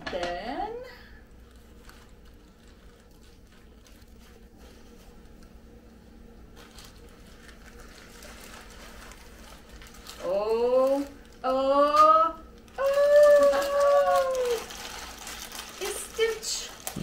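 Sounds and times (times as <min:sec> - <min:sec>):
fabric gift bag rustling: 0:01.4 - 0:17.0.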